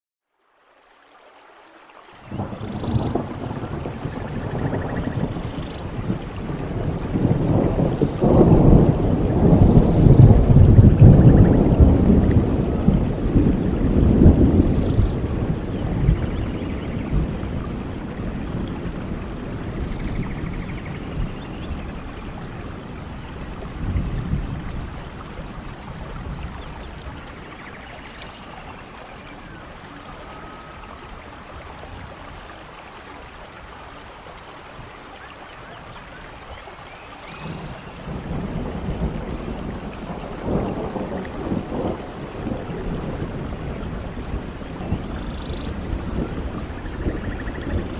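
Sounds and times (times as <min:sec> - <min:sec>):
steady rain: 0:00.2 - 0:47.9
rolling thunder: 0:02.3 - 0:32.5, 0:37.2 - 0:47.9.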